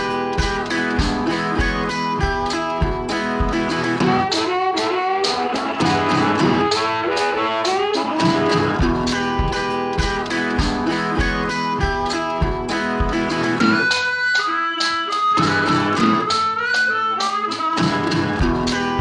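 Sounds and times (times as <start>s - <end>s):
folk music with guitar and fiddle: 0.0s - 19.0s.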